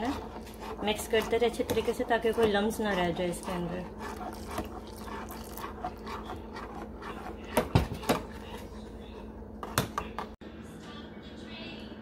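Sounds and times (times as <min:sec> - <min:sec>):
spoon stirring in saucepan: 0:00.0 - 0:10.4.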